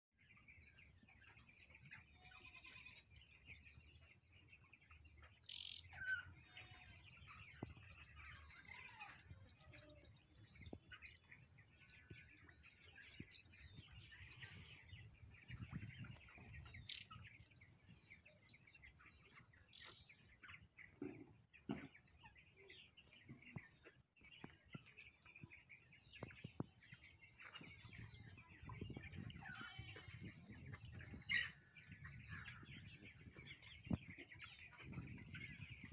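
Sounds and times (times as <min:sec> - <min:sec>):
small birds chirping: 0:00.2 - 0:35.9.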